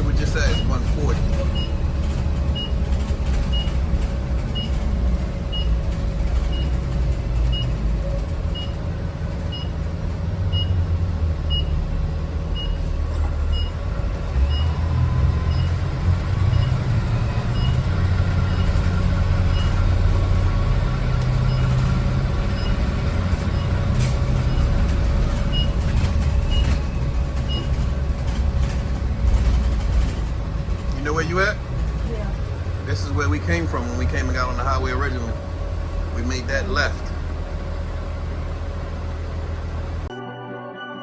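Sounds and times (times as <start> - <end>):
diesel truck engine running: 0.0 - 40.1.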